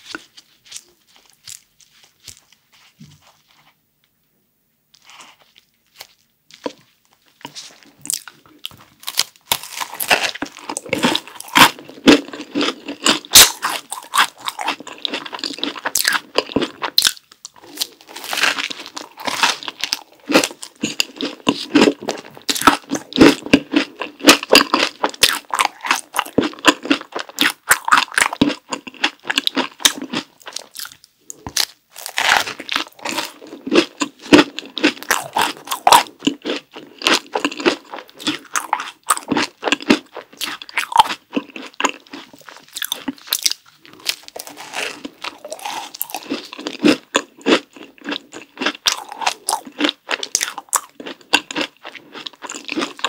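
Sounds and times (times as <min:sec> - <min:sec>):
crunchy chewing: 0:00.0 - 0:03.8, 0:04.9 - 0:53.0.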